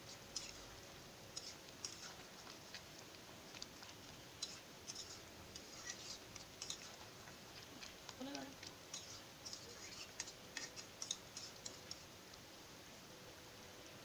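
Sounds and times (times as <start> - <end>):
metal spatula stirring: 0.0 - 12.1
thick curry popping: 0.0 - 12.1.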